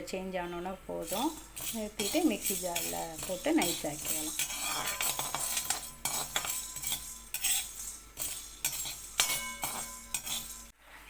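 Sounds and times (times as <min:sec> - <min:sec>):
metal spoon scraping iron pan: 0:00.4 - 0:10.7.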